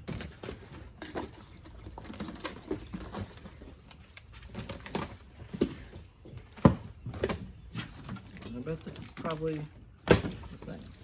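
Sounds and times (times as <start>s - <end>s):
cardboard packaging rustling and scraping: 0.0s - 11.0s.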